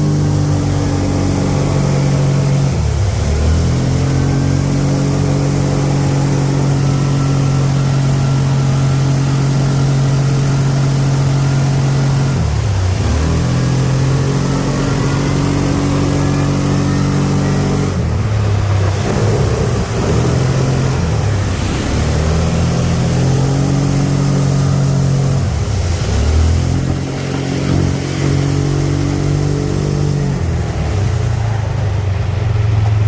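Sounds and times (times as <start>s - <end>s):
vehicle engine revving: 0.0s - 33.0s.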